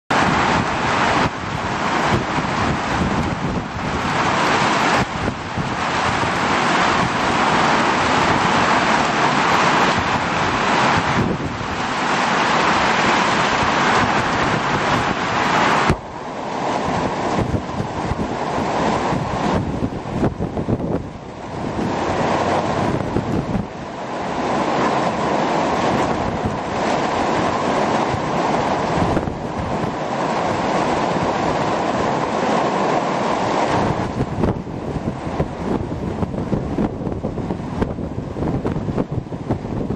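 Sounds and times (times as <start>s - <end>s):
strong wind rumbling: 0.1s - 39.9s
torrential rain on street: 0.1s - 39.9s.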